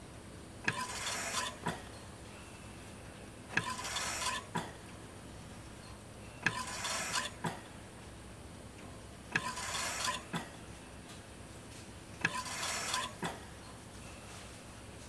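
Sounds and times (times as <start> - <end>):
ventilator clicks: 0.4 - 2.2, 3.1 - 13.9.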